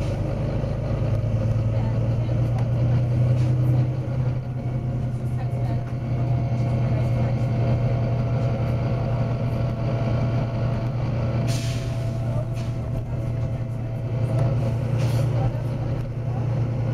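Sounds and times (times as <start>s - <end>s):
bus engine drone: 0.0s - 16.9s.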